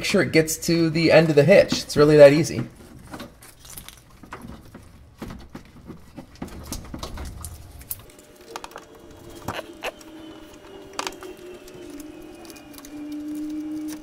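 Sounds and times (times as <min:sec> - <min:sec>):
hands handling wiring and zip ties: 0:01.2 - 0:14.0.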